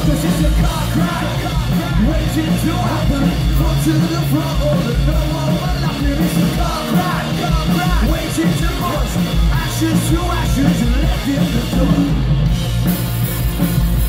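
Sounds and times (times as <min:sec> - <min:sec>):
lead singer: 0:00.0 - 0:12.6
rock band playing live: 0:00.0 - 0:14.0.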